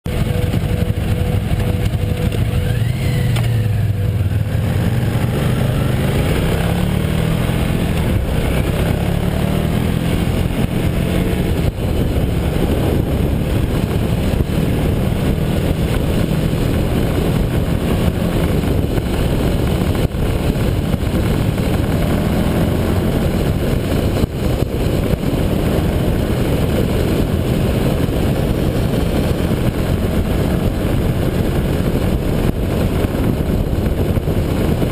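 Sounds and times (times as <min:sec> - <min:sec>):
motorcycle engine running: 0:00.0 - 0:34.9
wind rushing over microphone: 0:00.1 - 0:34.9.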